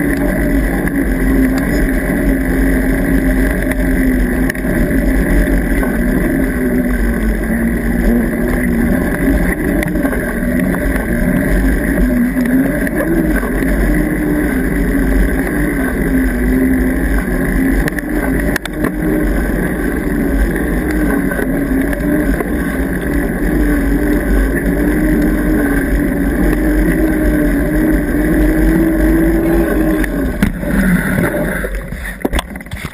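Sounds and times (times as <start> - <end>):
bike tyre humming on asphalt: 0.0 - 32.9
wind rumbling on microphone: 0.0 - 32.9.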